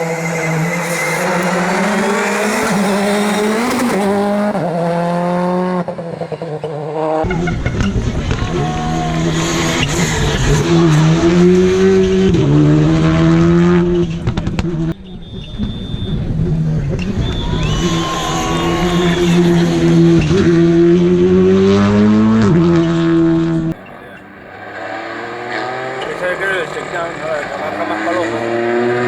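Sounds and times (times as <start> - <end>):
rally car engines at high revs: 0.0 - 29.0.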